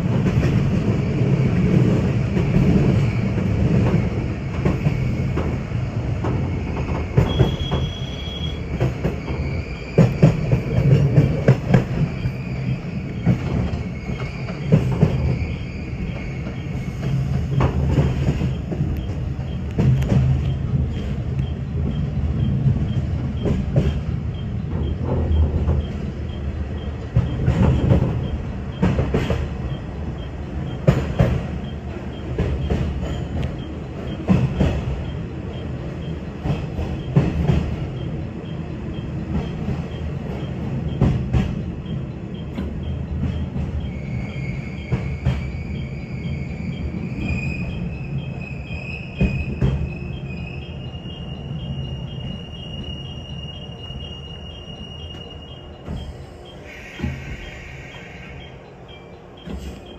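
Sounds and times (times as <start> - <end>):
wheels clunking over rail joints: 0.0 - 48.4
train low rumble: 0.0 - 59.9.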